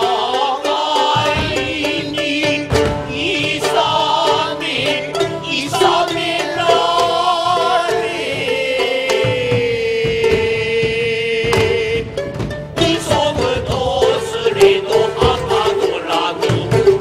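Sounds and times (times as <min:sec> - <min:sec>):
chanted singing: 0:00.0 - 0:12.1, 0:12.8 - 0:17.0
plucked shamisen: 0:00.0 - 0:17.0.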